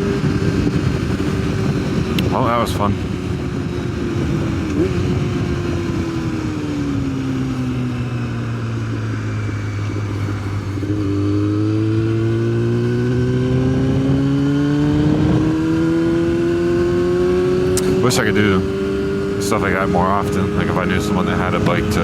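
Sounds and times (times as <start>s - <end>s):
motorcycle engine accelerating: 0.0s - 22.0s
wind noise: 0.0s - 22.0s.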